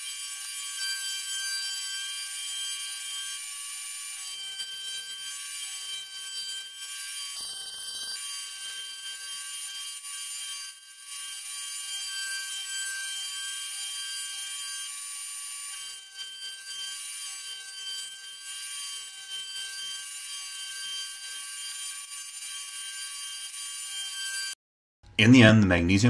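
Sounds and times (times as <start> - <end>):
cutter cutting metal: 0.0 - 24.6.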